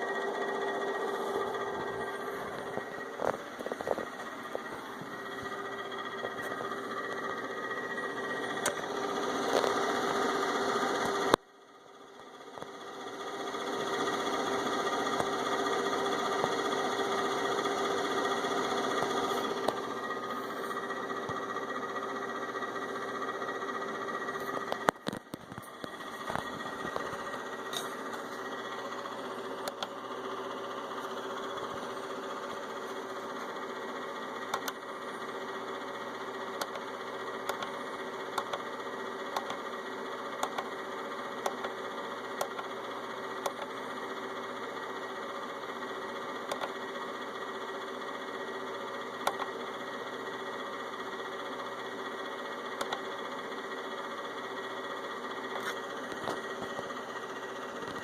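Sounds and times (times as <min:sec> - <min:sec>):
cooling fan whirring: 0:00.0 - 0:58.0.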